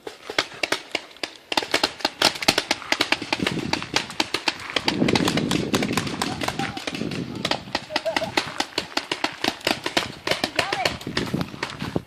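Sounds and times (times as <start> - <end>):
paintball markers firing rapidly: 0.0 - 11.8.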